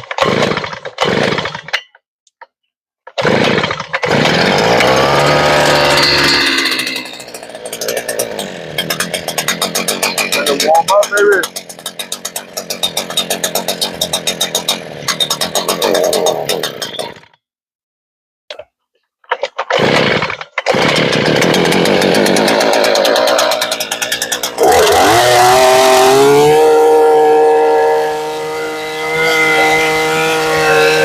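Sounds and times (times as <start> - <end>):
earth auger engine running: 3.2 - 17.4, 19.7 - 31.0.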